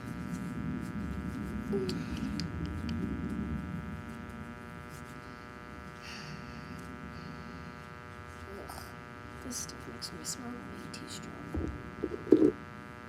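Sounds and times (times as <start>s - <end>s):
machine rumble with buzzing hum: 0.0s - 13.0s.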